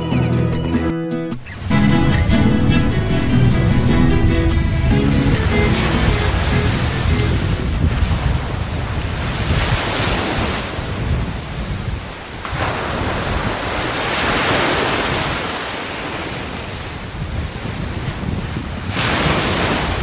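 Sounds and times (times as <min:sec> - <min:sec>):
ocean surf breaking: 0:01.4 - 0:20.0
wind buffeting microphone: 0:01.4 - 0:20.0.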